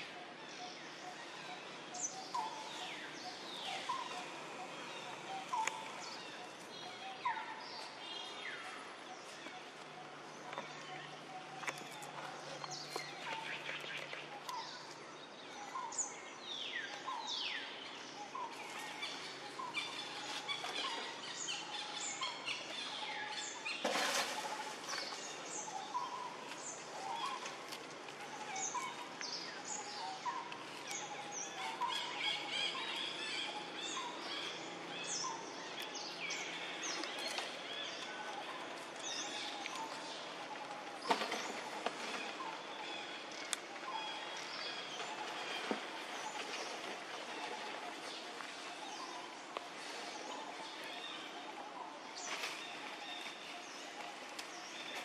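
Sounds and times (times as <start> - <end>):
wild birds chirping: 0.0 - 55.0.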